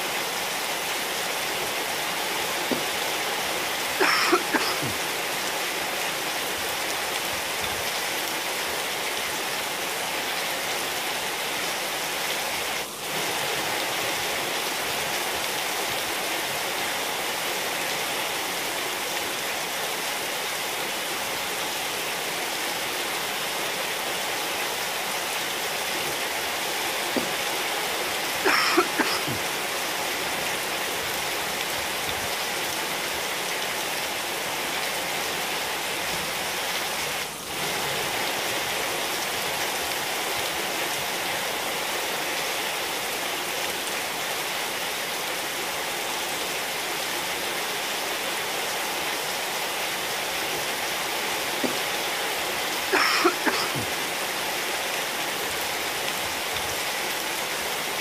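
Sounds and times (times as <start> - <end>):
sharp rain spatters: 0.0 - 58.0
steady rain on tiles: 0.0 - 58.0.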